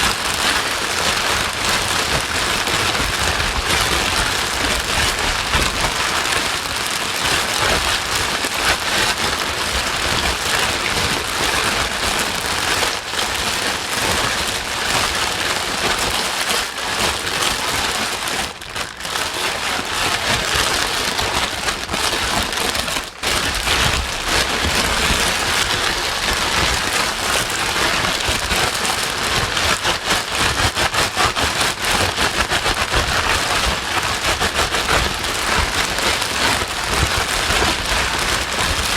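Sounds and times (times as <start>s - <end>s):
rain-like white noise: 0.0s - 38.9s.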